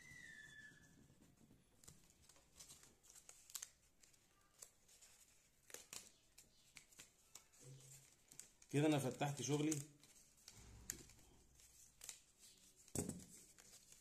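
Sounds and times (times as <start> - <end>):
paper rustling: 0.2 - 14.0.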